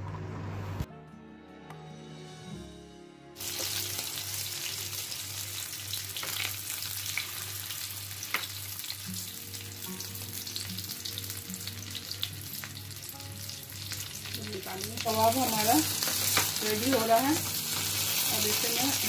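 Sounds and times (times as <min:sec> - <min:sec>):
food sizzling in hot oil: 0:03.4 - 0:19.0.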